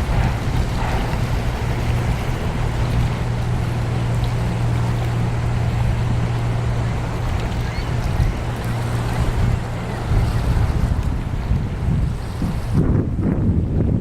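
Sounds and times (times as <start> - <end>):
motorboat engine droning: 0.0 - 13.9
water rumbling: 0.0 - 14.0.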